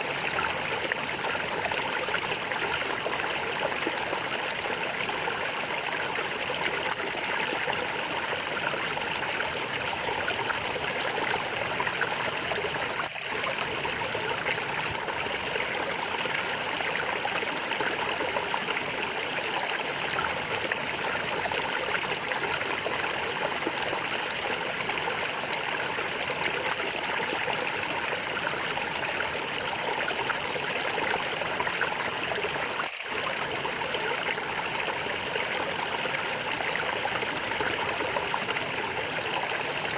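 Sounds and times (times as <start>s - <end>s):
flowing water gurgling: 0.0s - 39.9s.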